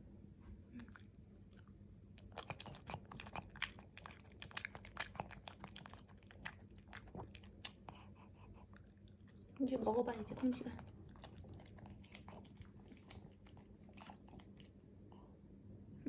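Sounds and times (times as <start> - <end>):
dog chewing and licking lips: 0.8 - 14.8.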